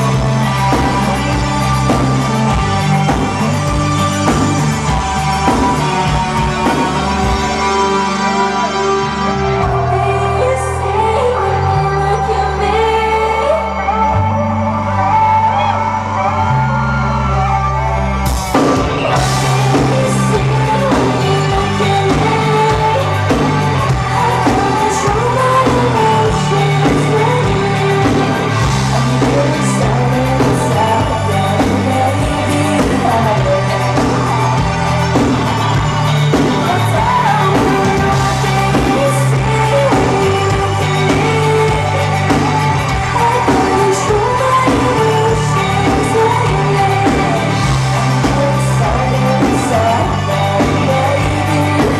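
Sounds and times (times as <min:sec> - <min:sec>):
live rock band playing: 0:00.0 - 0:51.9
person singing lead vocal: 0:00.0 - 0:51.9.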